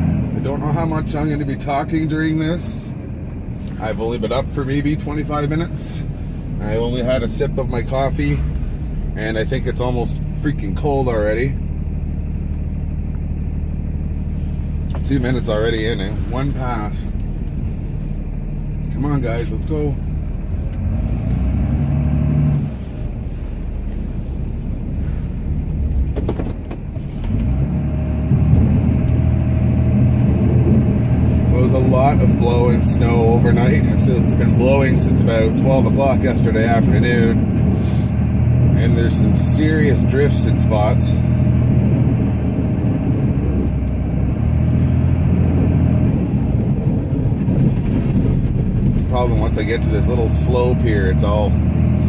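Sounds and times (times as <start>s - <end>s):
diesel engine running under load: 0.0s - 52.0s.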